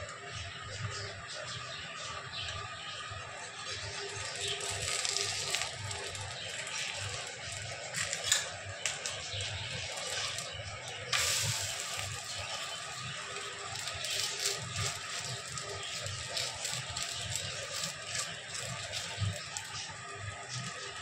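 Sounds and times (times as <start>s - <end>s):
batter sizzling in a frying pan: 3.6s - 21.0s.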